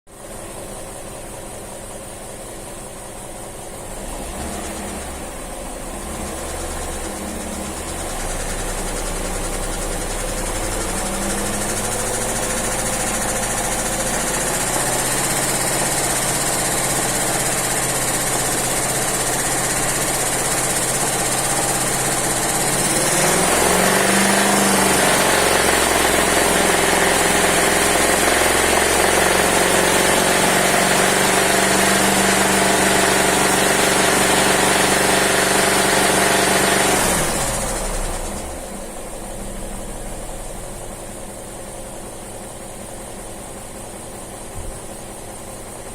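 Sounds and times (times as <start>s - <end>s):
engine knocking while revving: 3.7s - 45.9s.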